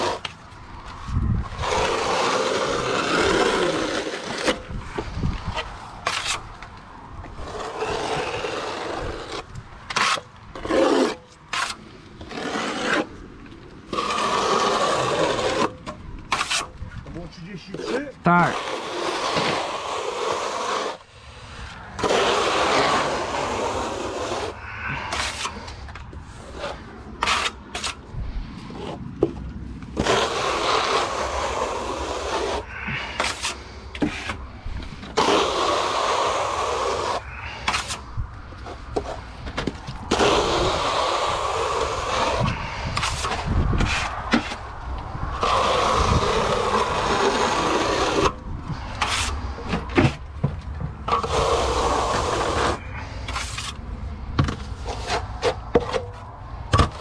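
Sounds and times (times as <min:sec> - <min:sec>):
steel trowel scraping render: 0:00.0 - 0:06.6, 0:07.3 - 0:29.1, 0:30.0 - 0:39.4, 0:40.0 - 0:44.7, 0:45.3 - 0:50.2, 0:51.0 - 0:53.8, 0:54.5 - 0:57.0.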